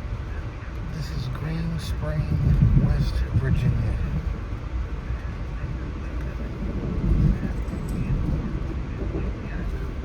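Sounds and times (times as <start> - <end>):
train rumbling on tracks: 0.0 - 10.0.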